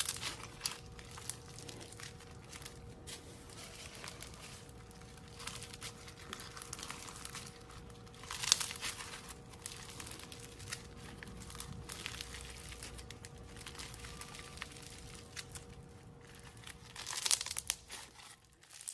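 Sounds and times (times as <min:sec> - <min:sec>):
slime crackling and squelching: 0:00.0 - 0:18.9.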